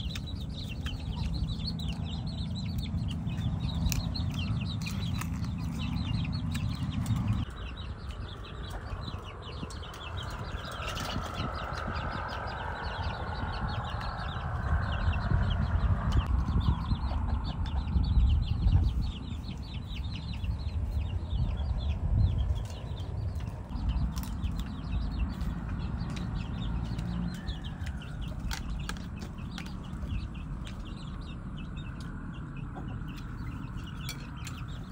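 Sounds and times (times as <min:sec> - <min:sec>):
chickens clucking: 0:00.0 - 0:34.9
low rumbling background: 0:00.0 - 0:34.9.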